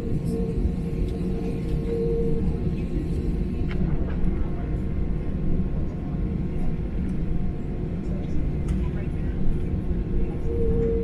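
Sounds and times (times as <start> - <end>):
airliner cabin rumble: 0.0 - 11.0
faint hum: 0.0 - 11.0.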